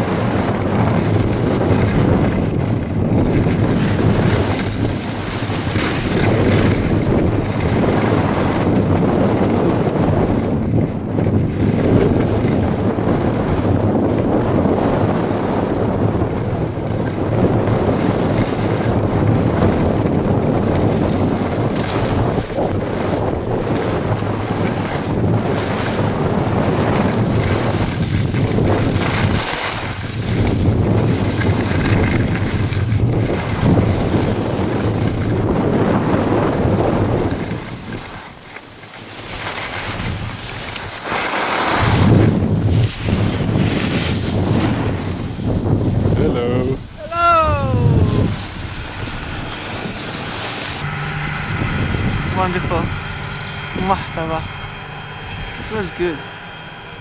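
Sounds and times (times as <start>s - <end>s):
skis sliding over snow: 0.0s - 50.9s, 55.5s - 56.3s
wind buffeting microphone: 0.0s - 57.0s.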